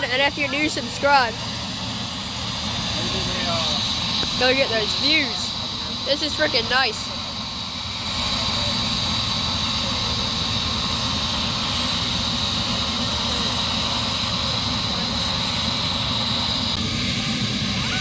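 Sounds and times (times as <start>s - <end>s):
helicopter turbine whine: 0.0s - 18.0s
low rotor rumble: 0.0s - 18.0s.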